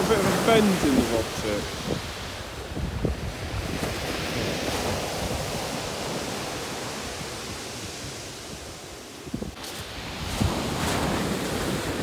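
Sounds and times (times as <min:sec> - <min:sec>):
surf on shingle beach: 0:00.0 - 0:12.0
wind on microphone: 0:00.0 - 0:12.0.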